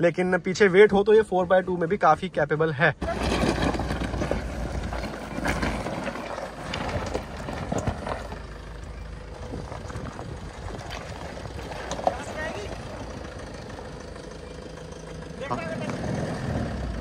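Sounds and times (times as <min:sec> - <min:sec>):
diesel engine under load: 0:02.9 - 0:17.0
stones crunching under tyres: 0:03.0 - 0:16.8.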